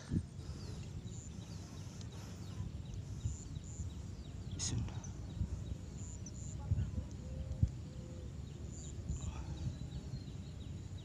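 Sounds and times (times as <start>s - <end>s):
small birds chirping: 0.0s - 11.0s
wind rumble: 0.0s - 11.0s.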